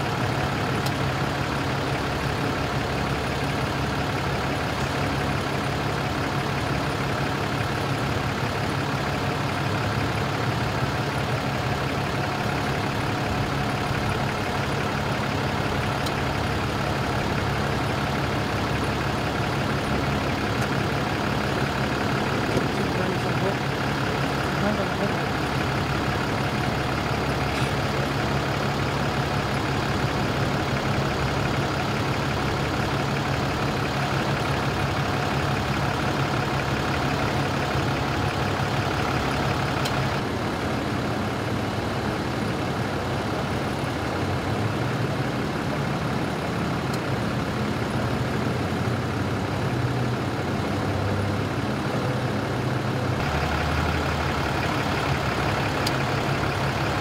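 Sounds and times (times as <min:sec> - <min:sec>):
heavy vehicle engine idling: 0:00.0 - 0:57.0.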